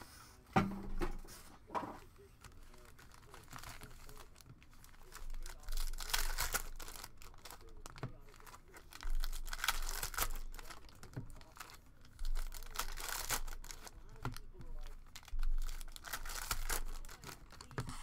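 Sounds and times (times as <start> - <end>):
foil wrappers tearing and crinkling: 2.2 - 17.8.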